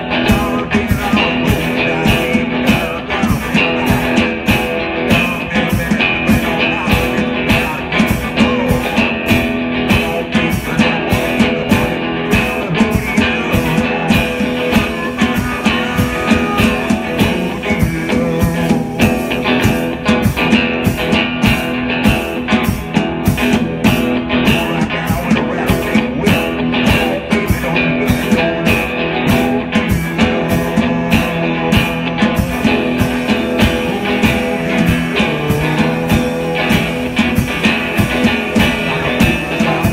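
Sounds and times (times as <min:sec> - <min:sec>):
drums steady beat: 0:00.0 - 0:39.9
electric guitar: 0:00.0 - 0:39.9.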